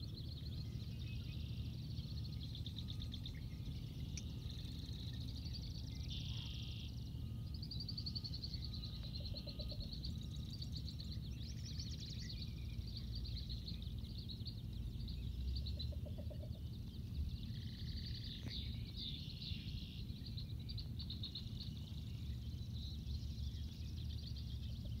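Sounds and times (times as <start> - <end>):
marsh birds chattering and trilling: 0.0 - 25.0
steady low rumble: 0.0 - 25.0.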